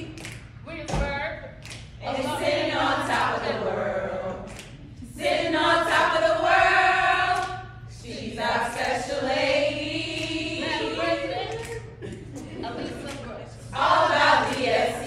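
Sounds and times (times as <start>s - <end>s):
women singing a cappella: 0.0s - 15.0s.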